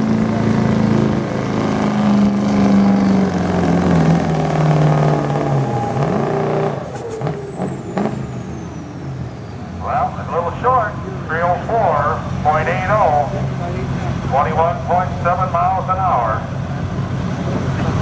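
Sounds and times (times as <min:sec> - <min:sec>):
diesel engine at full throttle: 0:00.0 - 0:18.0.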